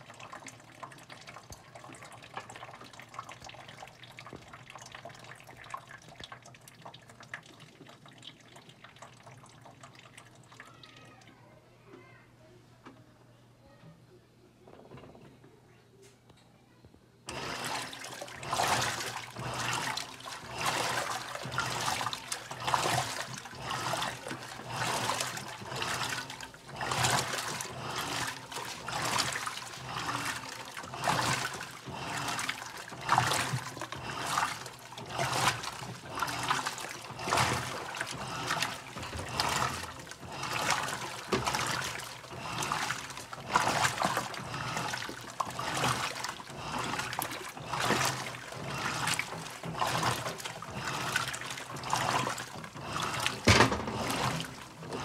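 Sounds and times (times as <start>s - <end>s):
washing machine water sloshing: 0.0s - 11.3s, 17.3s - 55.0s.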